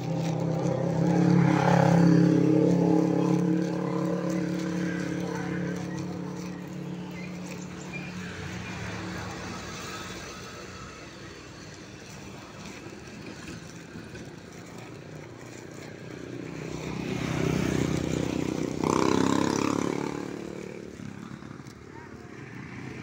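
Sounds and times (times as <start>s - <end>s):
traffic engines running: 0.0s - 23.0s
vehicle passing close: 0.0s - 23.0s.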